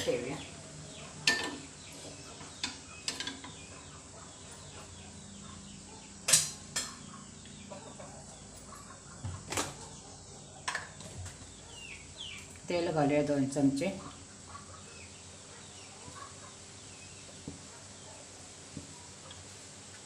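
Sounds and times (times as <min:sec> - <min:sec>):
chickens clucking: 0:00.0 - 0:12.6, 0:13.8 - 0:18.3
small birds chirping: 0:00.0 - 0:20.0.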